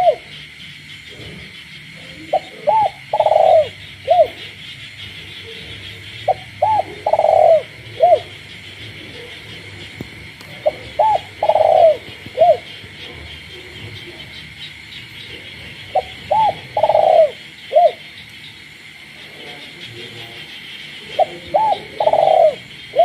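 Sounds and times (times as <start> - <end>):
dove cooing: 0.0 - 0.4, 1.0 - 18.2, 18.8 - 23.0
frogs chorus: 0.0 - 23.0.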